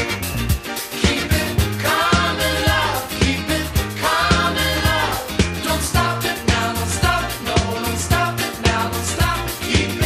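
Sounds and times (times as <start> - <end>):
bass line: 0.0 - 10.0
pop music with steady beat: 0.0 - 10.0.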